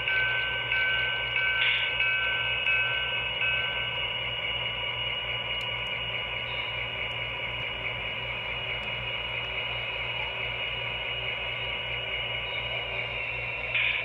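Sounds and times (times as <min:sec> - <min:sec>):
faint regular pulsing: 0:00.0 - 0:14.0
model train whirring: 0:00.0 - 0:14.0.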